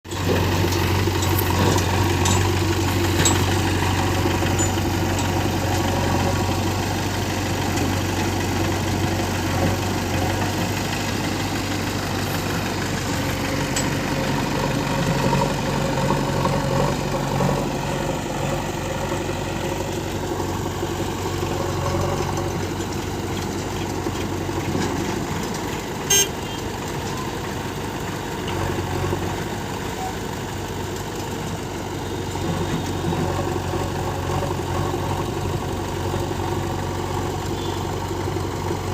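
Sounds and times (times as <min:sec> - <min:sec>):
diesel engines humming: 0:00.0 - 0:38.9.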